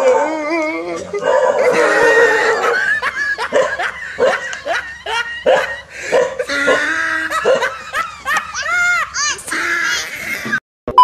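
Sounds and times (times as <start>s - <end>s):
person laughing: 1.6s - 10.6s.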